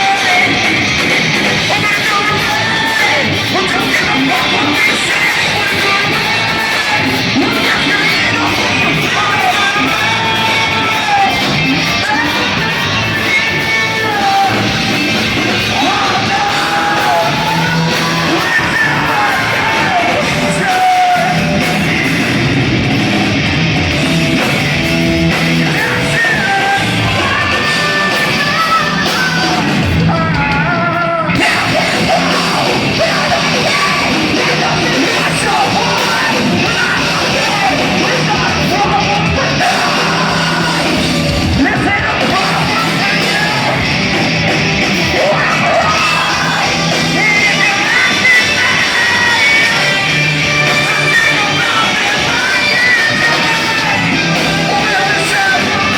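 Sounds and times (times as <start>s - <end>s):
live rock band playing: 0.0s - 55.9s
sung and yelled vocals: 0.0s - 55.9s.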